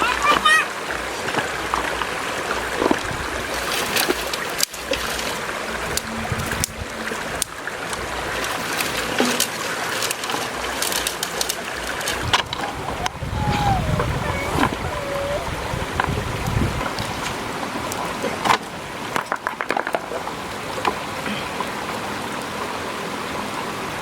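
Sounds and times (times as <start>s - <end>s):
stream water rushing: 0.0s - 24.0s
water splashes: 0.0s - 24.0s.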